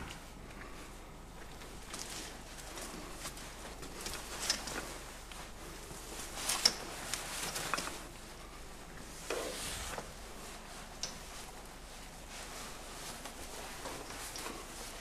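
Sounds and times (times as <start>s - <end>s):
faint footsteps: 0.0s - 15.0s
scraping rustle: 1.6s - 15.0s.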